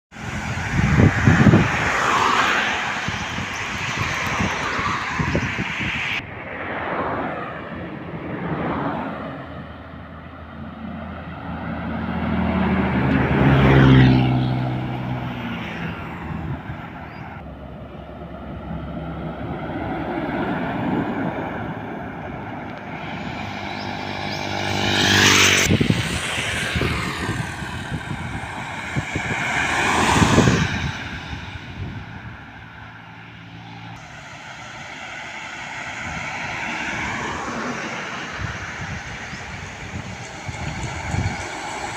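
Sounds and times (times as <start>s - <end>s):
trucks driving past: 0.1s - 41.9s.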